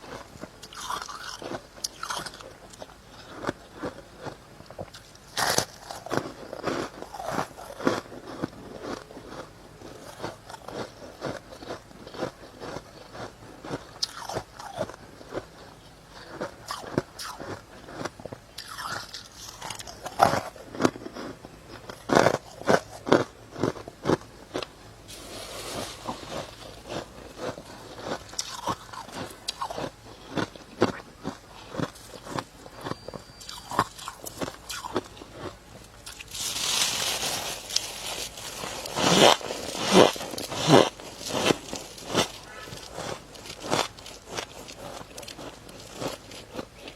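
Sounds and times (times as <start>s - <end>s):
chewing crunchy frost: 0.0s - 46.9s.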